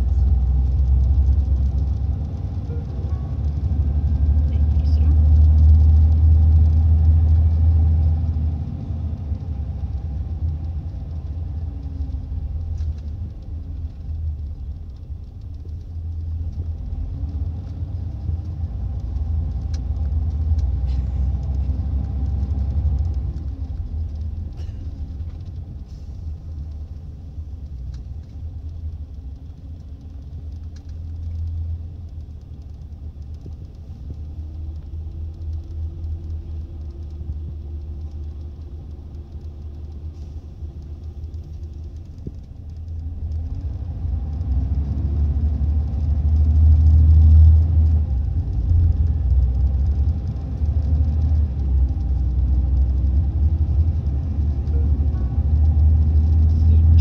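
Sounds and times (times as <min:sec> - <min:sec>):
bus diesel engine rumbling: 0:00.0 - 0:57.0.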